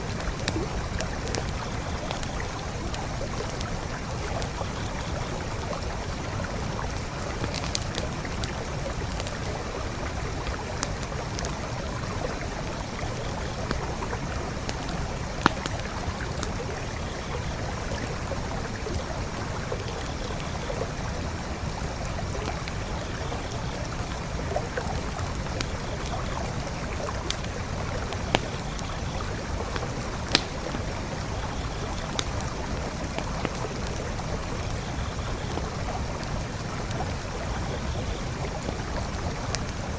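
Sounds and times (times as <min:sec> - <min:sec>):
campfire crackling and popping: 0:00.0 - 0:39.9
creek flowing: 0:00.0 - 0:39.9.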